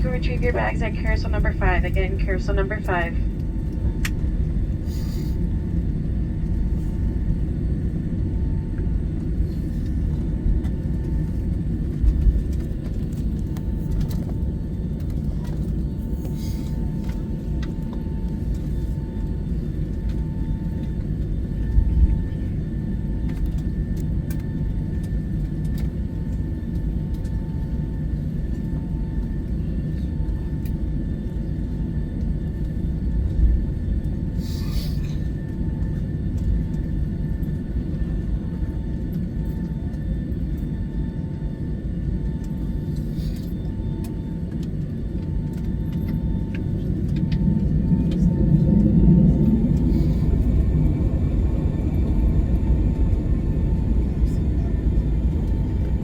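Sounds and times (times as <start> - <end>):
aircraft engines rumbling: 0.0 - 56.0.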